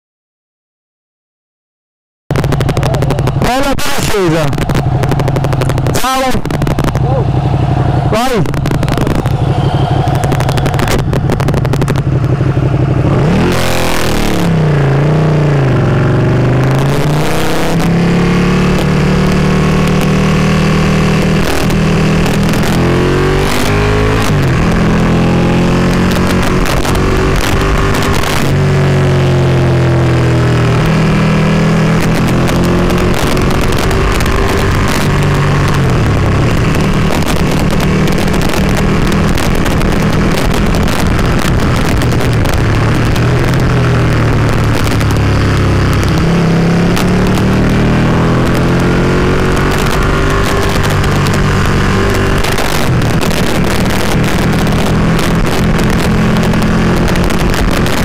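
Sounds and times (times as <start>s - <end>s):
motorcycle engine revving: 2.3s - 58.0s
wind noise: 2.3s - 58.0s.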